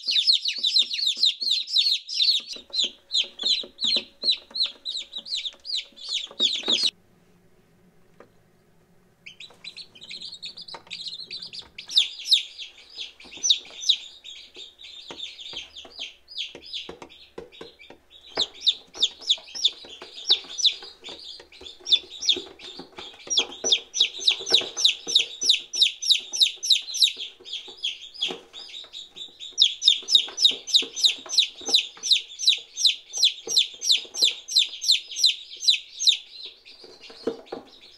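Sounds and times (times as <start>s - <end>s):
chicks peeping: 0.0s - 7.0s, 8.1s - 37.9s.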